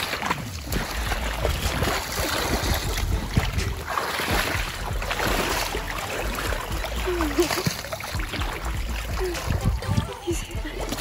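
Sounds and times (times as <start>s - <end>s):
water sloshing around wading legs: 0.0s - 11.0s
wind buffeting microphone: 0.6s - 7.1s, 8.1s - 11.0s.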